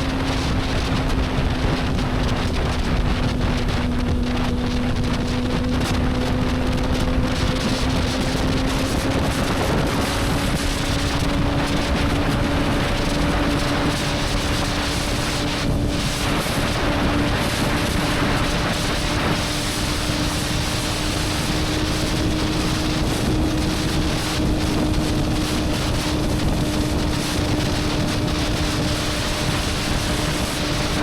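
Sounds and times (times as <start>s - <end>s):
motorcycle engine cruising: 0.0s - 31.0s
wind on microphone: 0.0s - 31.0s.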